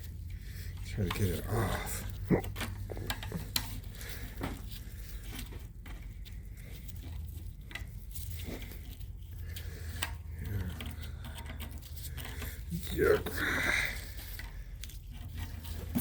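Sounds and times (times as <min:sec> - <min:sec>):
hand tools clicking and scraping: 0:00.0 - 0:16.0.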